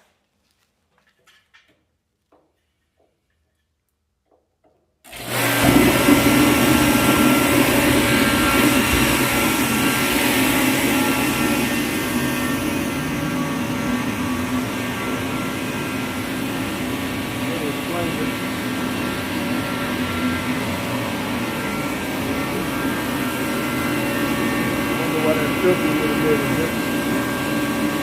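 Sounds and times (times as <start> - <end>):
motor or blower running: 5.1 - 28.0.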